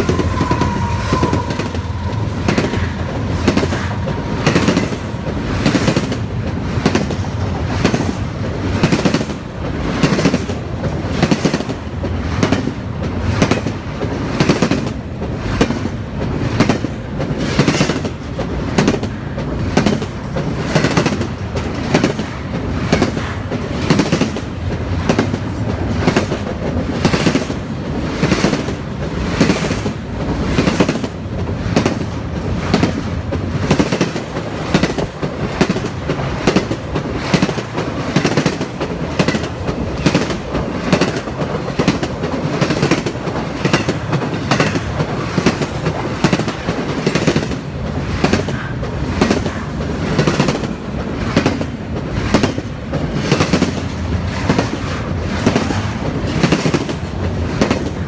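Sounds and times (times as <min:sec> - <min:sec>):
train rolling rumble: 0:00.0 - 0:58.0
wheels clacking over rail joints: 0:00.0 - 0:58.0.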